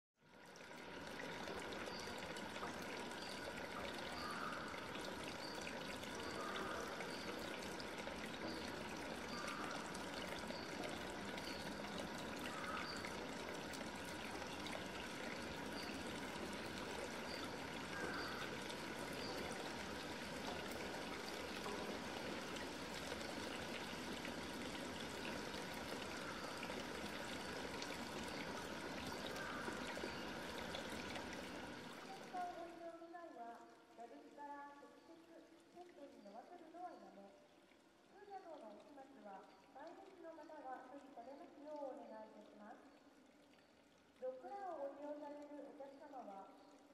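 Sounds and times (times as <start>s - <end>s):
trickling running water: 0.2s - 46.9s.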